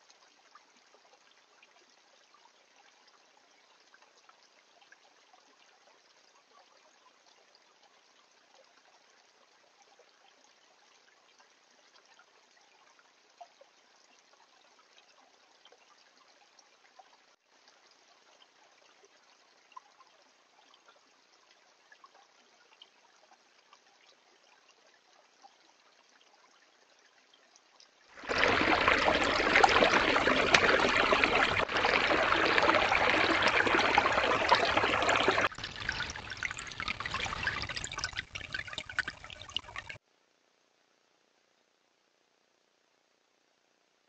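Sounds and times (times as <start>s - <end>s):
creek water trickling over stones: 0.0s - 40.0s.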